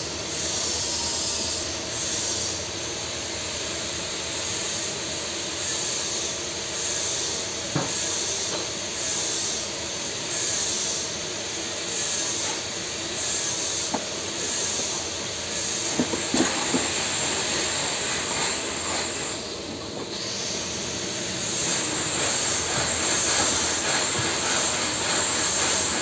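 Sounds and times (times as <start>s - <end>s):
pulsing high hiss: 0.0s - 26.0s
welding hiss and hum: 0.0s - 26.0s.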